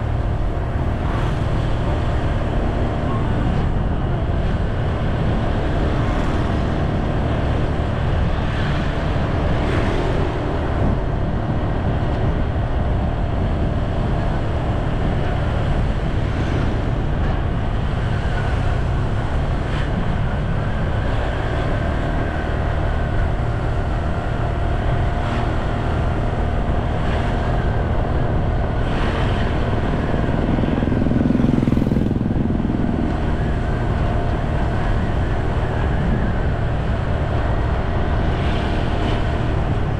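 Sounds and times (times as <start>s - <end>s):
vehicle road noise: 0.0s - 39.9s
wind rumble on microphone: 0.0s - 39.9s.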